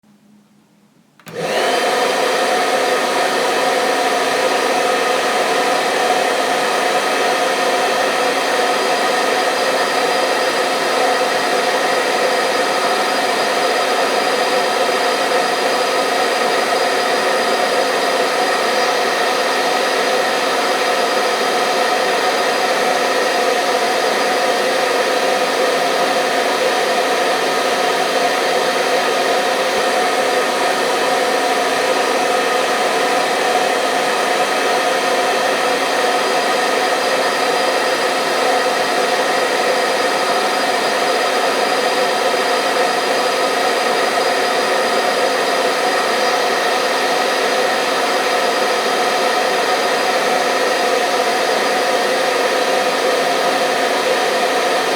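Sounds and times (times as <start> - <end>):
hair dryer running: 1.2 - 54.9.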